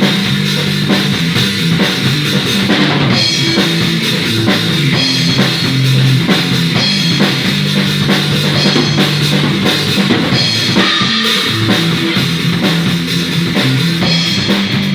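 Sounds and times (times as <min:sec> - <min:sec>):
rock music with drums bass guitar: 0:00.0 - 0:14.9.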